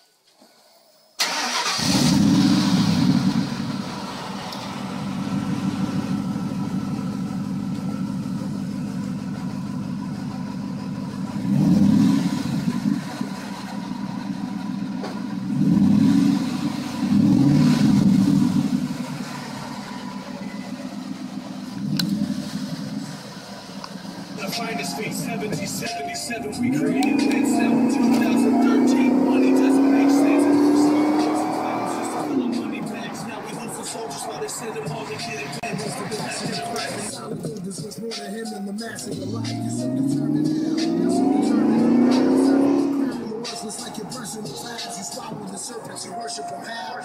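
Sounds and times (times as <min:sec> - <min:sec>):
car engine starting: 0:00.7 - 0:47.0
engine throttle blips: 0:01.2 - 0:37.8, 0:38.8 - 0:47.0
car engine idling: 0:01.2 - 0:47.0.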